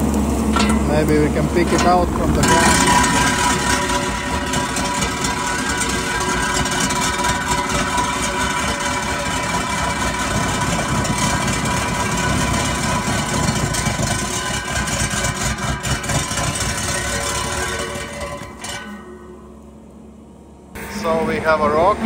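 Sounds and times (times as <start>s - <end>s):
hydraulic whine: 0.0s - 22.0s
loader engine rumble: 0.0s - 22.0s.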